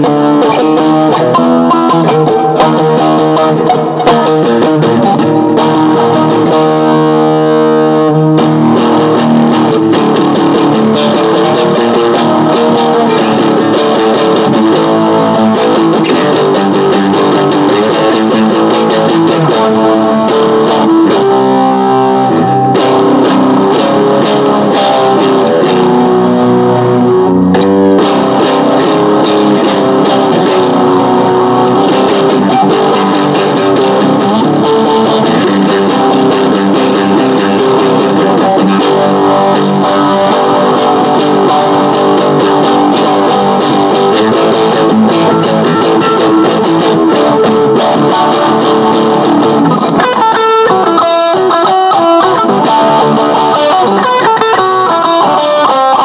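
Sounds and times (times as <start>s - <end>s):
guitar playing: 0.0s - 56.0s.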